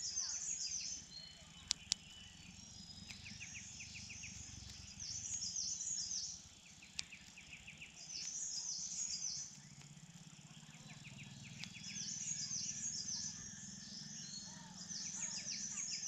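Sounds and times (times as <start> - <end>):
faint rapid ticking: 0.8 - 16.0.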